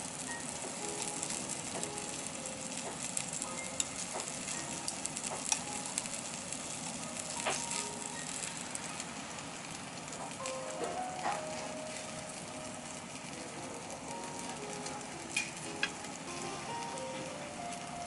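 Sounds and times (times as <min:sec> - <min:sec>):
meat sizzling on a grill: 0:00.0 - 0:18.0.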